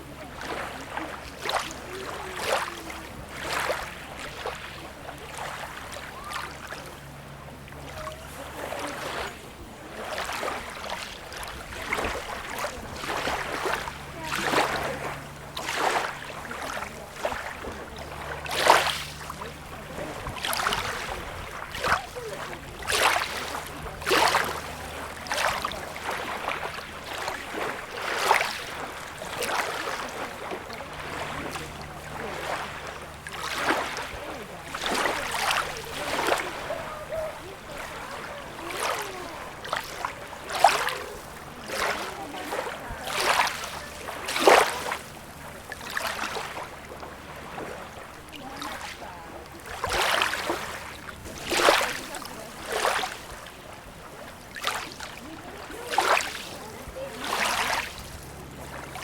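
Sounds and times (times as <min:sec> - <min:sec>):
small waves lapping and splashing: 0:00.0 - 0:59.0.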